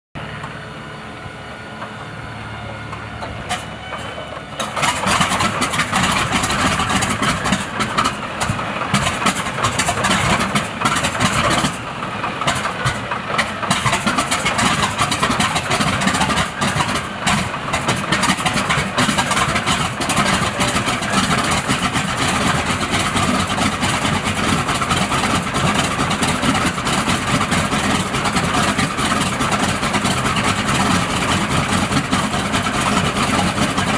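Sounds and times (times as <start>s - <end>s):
aircraft engine running rough: 0.2s - 33.9s
aircraft engine turning over: 0.2s - 33.9s.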